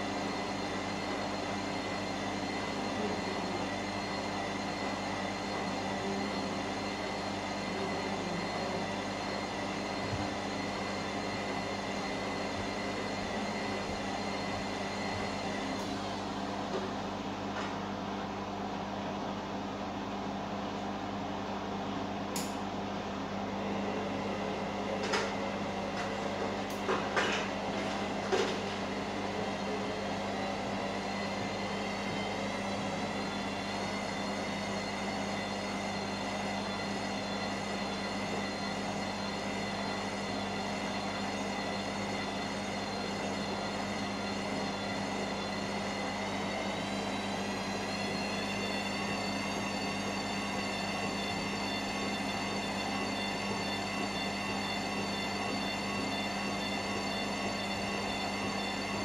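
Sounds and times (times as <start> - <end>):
washing machine spinning whine: 0.0 - 59.0.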